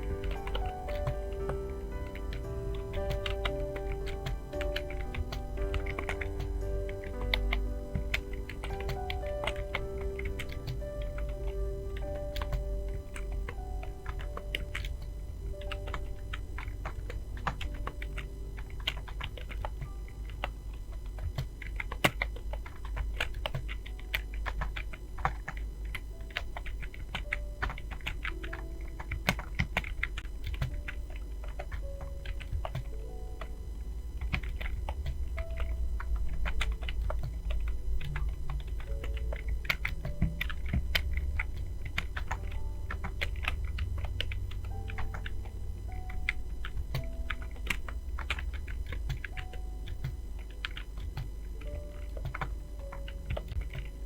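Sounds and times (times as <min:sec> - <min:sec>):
computer keyboard typing: 0:00.0 - 0:54.0
soft background music: 0:00.0 - 0:54.0.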